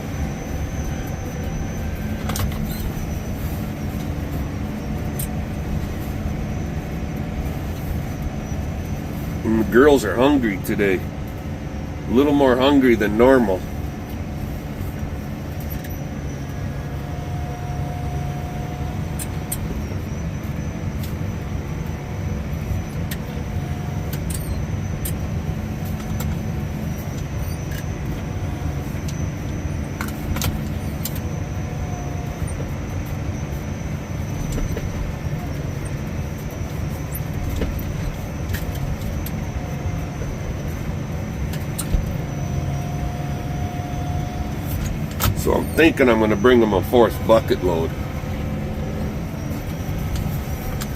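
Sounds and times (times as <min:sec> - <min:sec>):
faint whine: 0:00.0 - 0:50.9
tractor engine running under load: 0:00.0 - 0:50.9.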